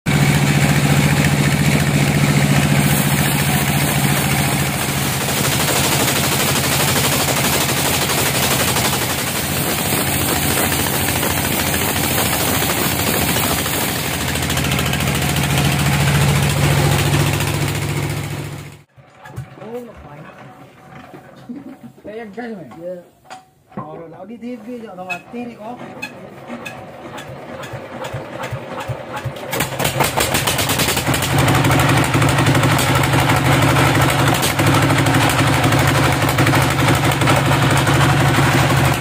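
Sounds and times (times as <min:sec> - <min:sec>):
sawmill mechanical drone: 0:00.1 - 0:21.8, 0:24.5 - 0:39.0.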